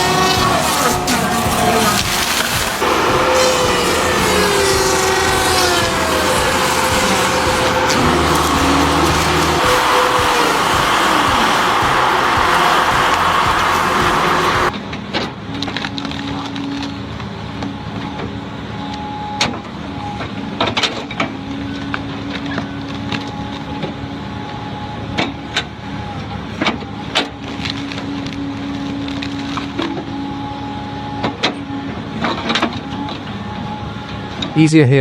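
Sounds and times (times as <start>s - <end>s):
heavy machine engine running: 0.0s - 34.6s.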